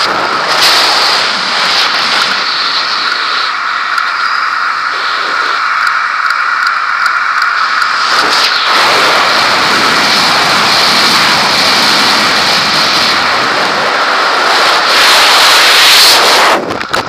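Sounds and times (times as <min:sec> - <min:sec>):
rush of airflow over helmet: 0:00.0 - 0:17.0.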